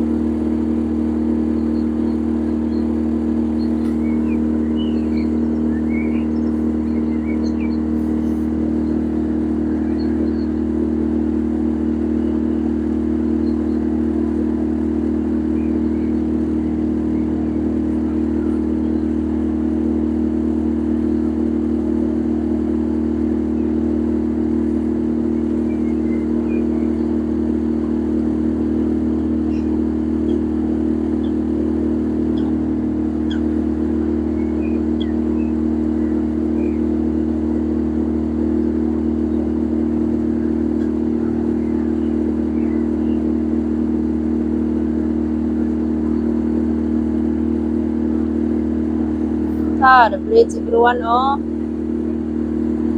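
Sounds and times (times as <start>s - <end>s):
motorboat engine droning: 0.0s - 52.9s.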